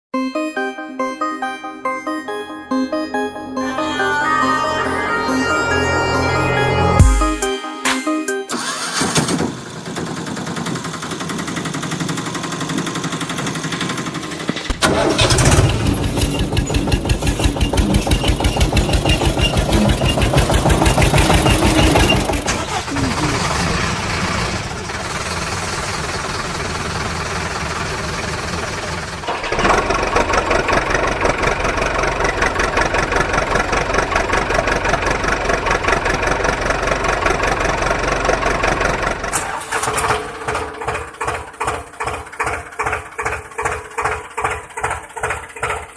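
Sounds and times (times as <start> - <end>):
vehicle engine chugging: 8.6 - 45.9.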